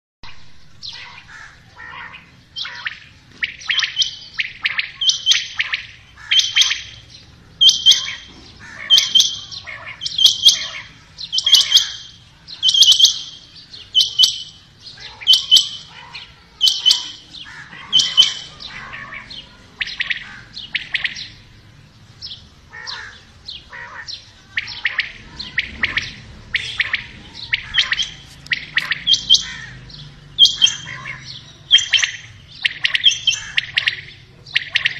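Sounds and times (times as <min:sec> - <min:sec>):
quail calling: 0:00.8 - 0:21.5, 0:22.3 - 0:34.9.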